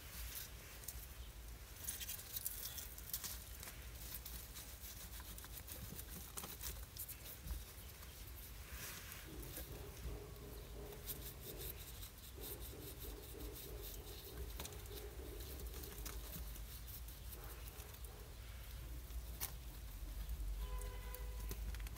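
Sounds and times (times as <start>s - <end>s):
rabbits rustling in dry hay: 0.0s - 21.9s.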